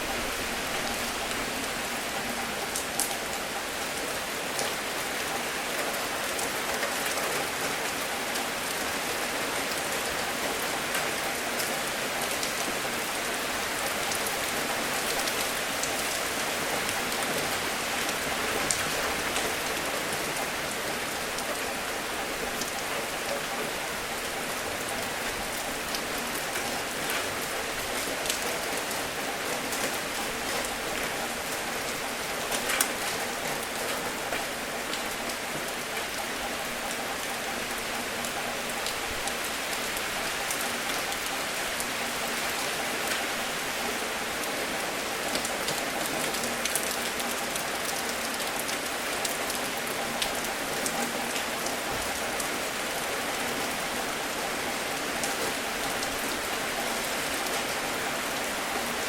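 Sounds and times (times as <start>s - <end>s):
gentle rain falling: 0.0s - 59.0s
raindrops pattering on a surface: 0.0s - 59.0s.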